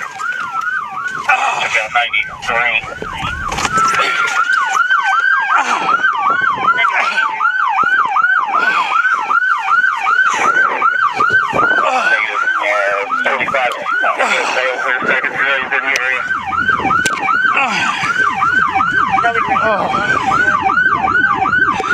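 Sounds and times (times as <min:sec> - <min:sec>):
siren wailing: 0:00.0 - 0:21.9
siren yelping: 0:00.0 - 0:21.9.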